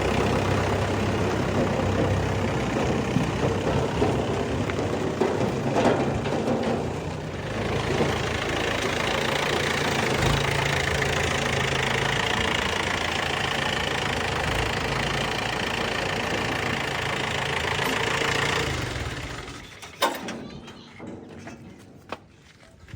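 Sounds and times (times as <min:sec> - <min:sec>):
diesel engine droning: 0:00.0 - 0:21.8.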